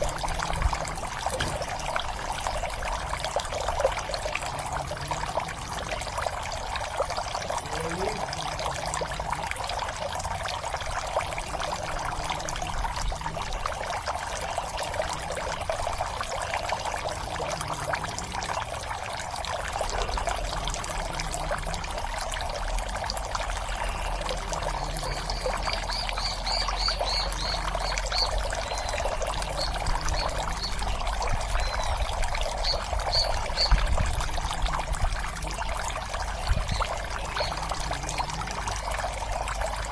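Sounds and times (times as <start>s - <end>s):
water splashing into a pond: 0.0s - 39.9s.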